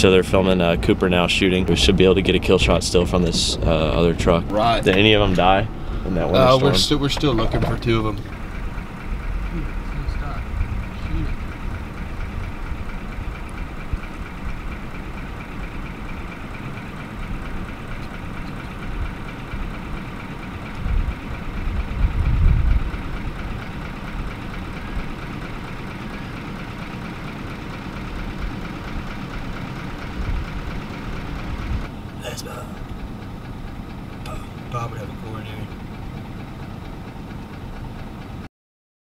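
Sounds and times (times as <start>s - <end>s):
vehicle engine idling: 0.0s - 38.5s.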